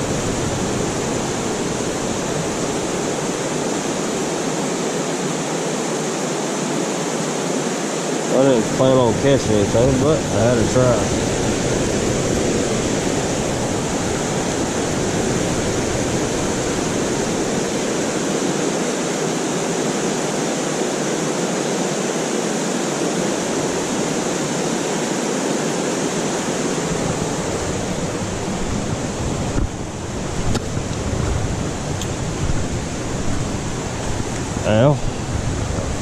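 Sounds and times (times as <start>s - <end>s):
water rushing over rocks: 0.0s - 36.0s.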